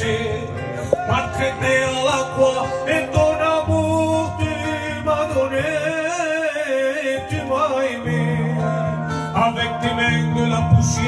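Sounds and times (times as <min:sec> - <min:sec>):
acoustic guitar playing chords: 0:00.0 - 0:11.0.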